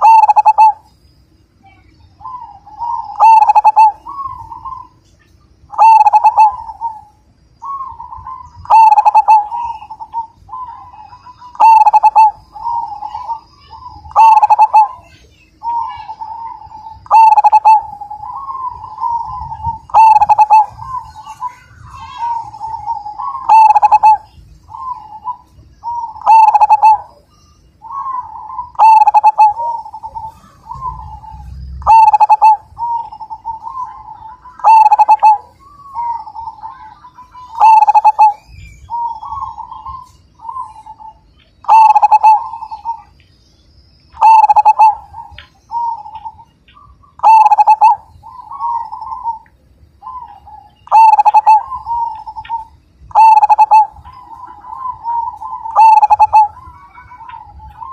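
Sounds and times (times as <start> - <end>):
dove cooing: 0.0 - 1.0, 2.0 - 43.2, 44.1 - 57.9.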